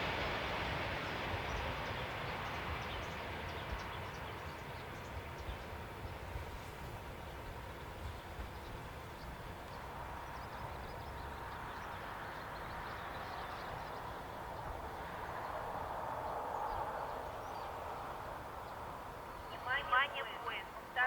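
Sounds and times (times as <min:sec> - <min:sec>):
distant train rushing: 0:00.0 - 0:21.0.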